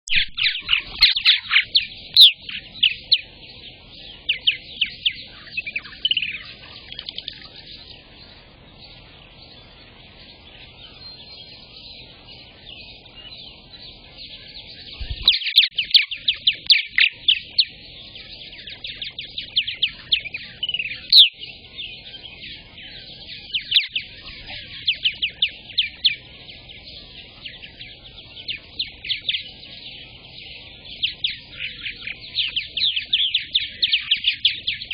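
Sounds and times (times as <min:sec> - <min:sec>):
birds chattering: 0:00.1 - 0:34.9.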